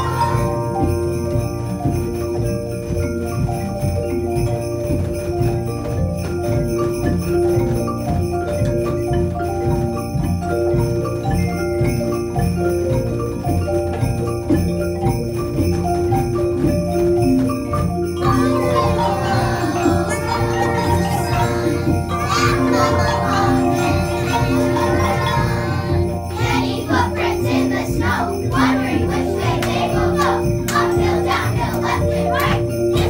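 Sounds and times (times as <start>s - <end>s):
xylophones and metallophones melody: 0.0s - 33.0s.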